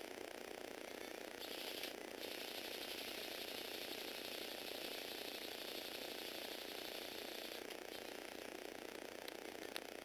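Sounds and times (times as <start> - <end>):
electric motors whirring gears: 1.3 - 9.9.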